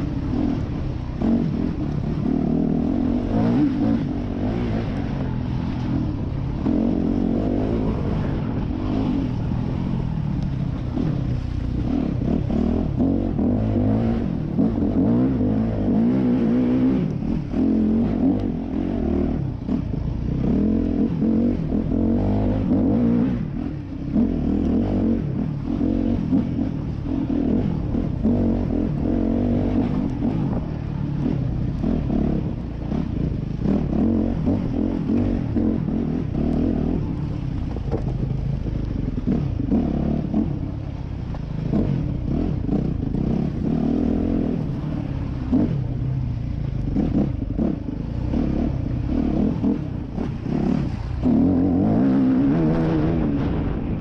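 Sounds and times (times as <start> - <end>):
dirt bike engine revving: 0.0 - 10.2, 10.8 - 38.2, 39.1 - 54.0.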